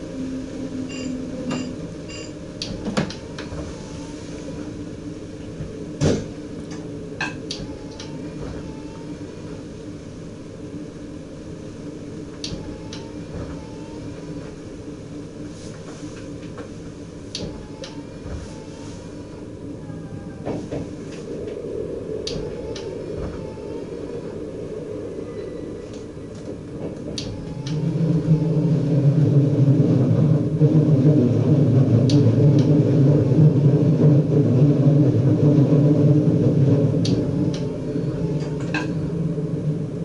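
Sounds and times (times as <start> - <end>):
train running hum: 0.0 - 40.0.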